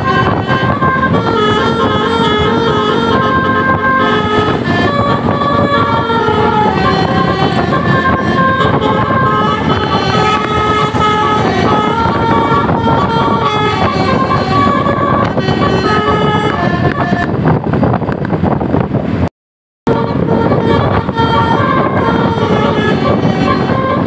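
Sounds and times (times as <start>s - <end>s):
electric multi-tone bus horn tune: 0.0s - 18.0s, 19.9s - 24.0s.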